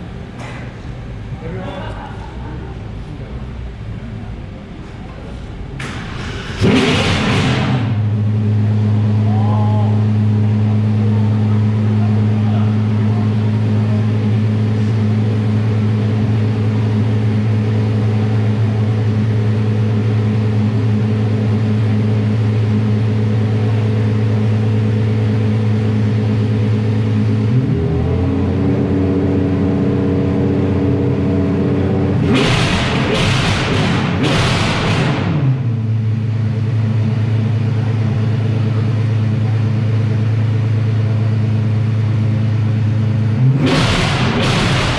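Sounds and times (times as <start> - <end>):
engine idling: 0.0 - 44.9
engine revving: 5.8 - 44.9.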